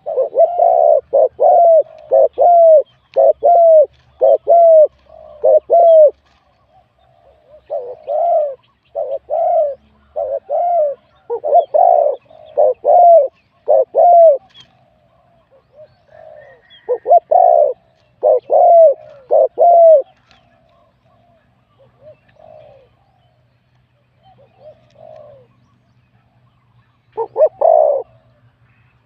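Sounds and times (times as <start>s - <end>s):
dove cooing: 0.0s - 23.3s, 24.2s - 25.6s, 27.1s - 28.5s
faint cooing of other doves: 0.0s - 29.0s.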